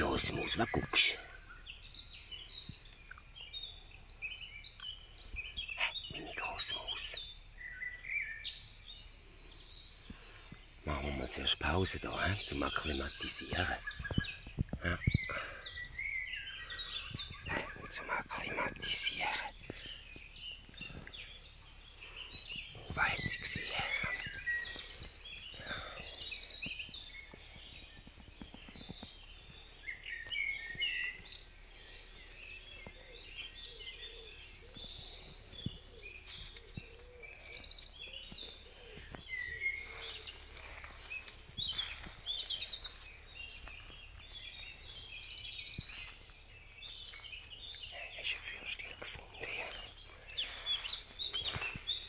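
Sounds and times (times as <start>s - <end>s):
songbirds chirping and trilling: 0.0s - 52.0s.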